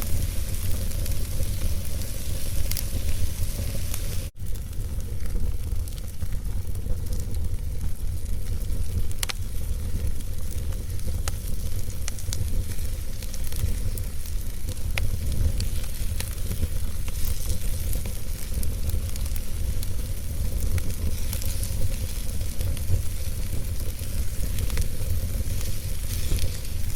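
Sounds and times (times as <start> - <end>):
fire crackles and pops: 0.0 - 26.9
low rumble of flames: 0.0 - 26.9.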